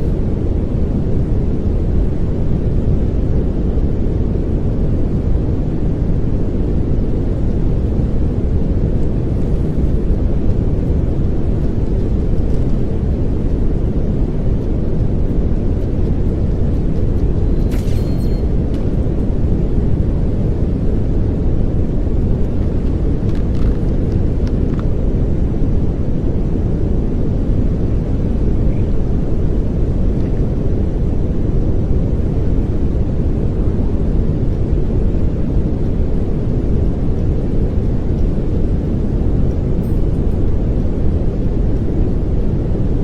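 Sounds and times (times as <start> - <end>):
steady pink noise hiss: 0.0 - 43.0.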